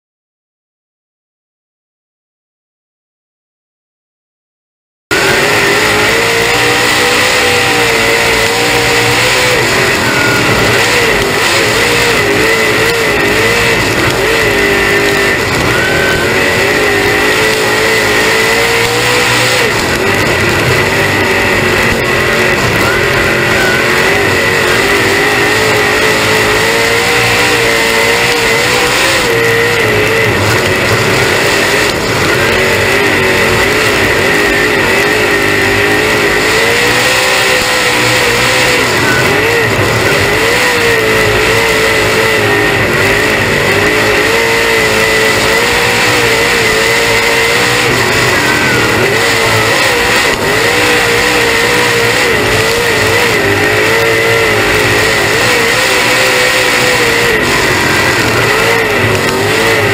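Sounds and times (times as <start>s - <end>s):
high whine: 5.1s - 59.9s
race car engine revving: 5.1s - 59.9s.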